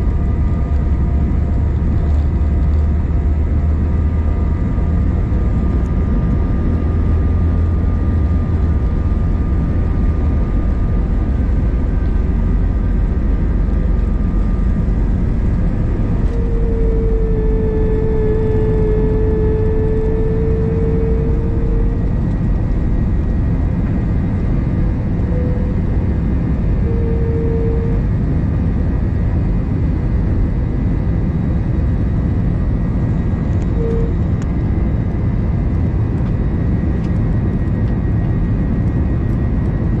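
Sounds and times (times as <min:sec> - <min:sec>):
jet engines roaring: 0:00.0 - 0:40.0
low runway rumble: 0:00.0 - 0:40.0
steady whine: 0:00.0 - 0:40.0.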